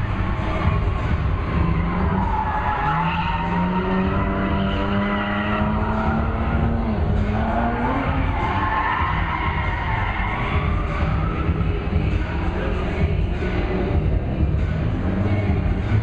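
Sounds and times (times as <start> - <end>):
car engine revving: 0.0 - 16.0
tyres skidding: 0.0 - 16.0.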